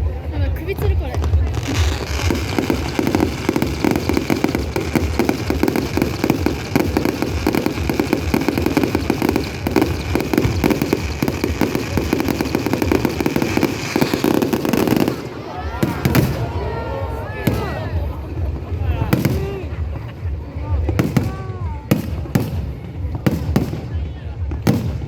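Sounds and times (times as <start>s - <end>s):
fireworks popping and crackling: 0.1s - 25.0s.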